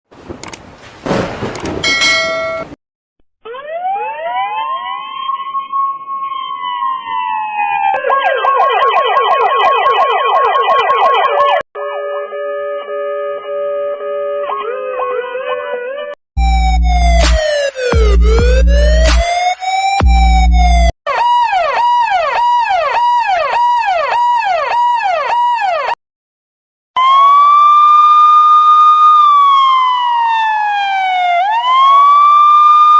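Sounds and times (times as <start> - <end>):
police siren wailing and yelping: 3.4 - 26.0, 27.0 - 32.9
steady siren tone: 3.4 - 26.0, 27.0 - 32.9.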